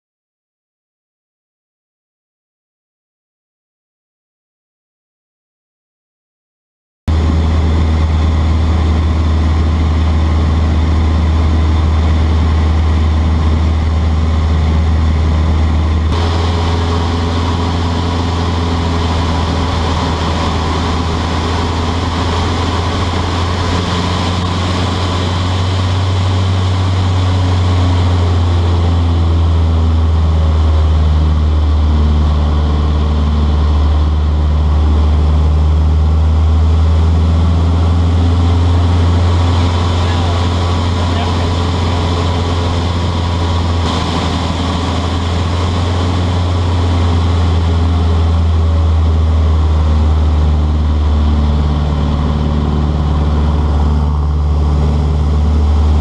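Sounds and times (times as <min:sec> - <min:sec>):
airplane engine and propeller drone: 0:07.1 - 0:56.0.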